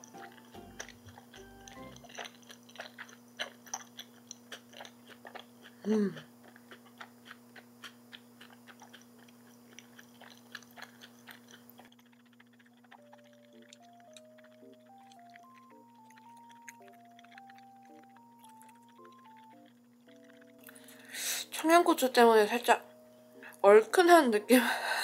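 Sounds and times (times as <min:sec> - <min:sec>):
crunchy chewing: 0:00.0 - 0:21.6.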